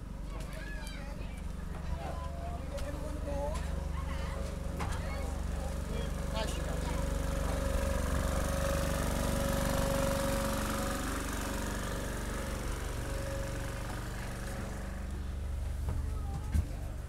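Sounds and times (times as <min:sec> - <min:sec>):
train engine running: 0:01.2 - 0:17.0.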